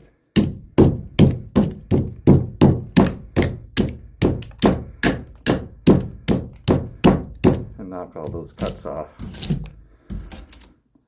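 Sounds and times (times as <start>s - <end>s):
hammer striking wood board: 0.4s - 9.5s.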